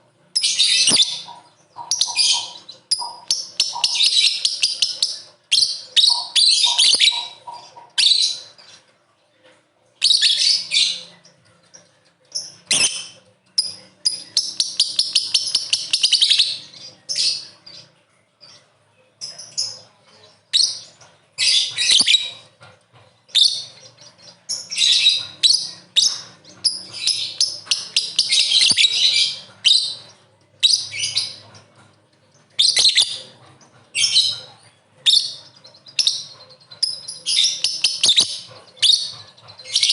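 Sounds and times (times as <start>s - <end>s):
lovebird chattering: 0.3s - 8.8s, 10.0s - 18.6s, 19.2s - 39.9s.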